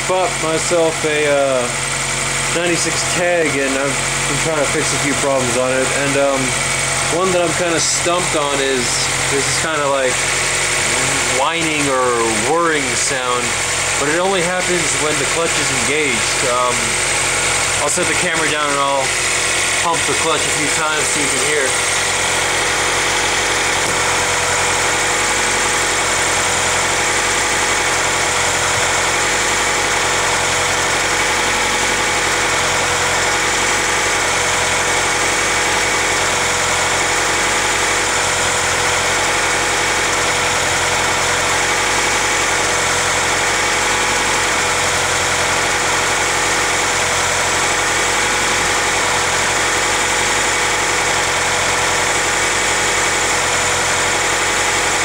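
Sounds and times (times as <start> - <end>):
car engine idling: 0.0 - 55.0
transmission whine: 0.0 - 55.0.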